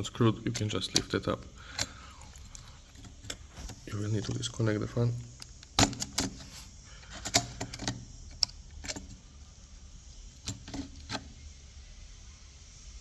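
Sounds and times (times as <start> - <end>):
small laptop parts clicking and rattling: 0.0 - 11.6.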